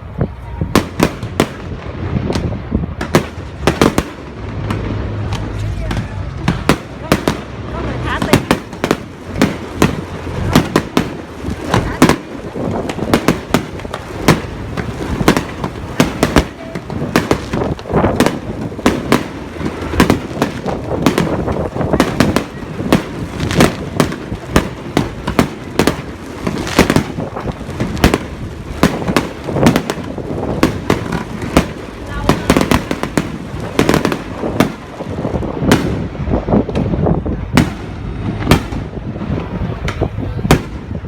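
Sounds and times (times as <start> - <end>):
fireworks bangs: 0.0 - 41.0
fireworks crackling: 0.0 - 41.0.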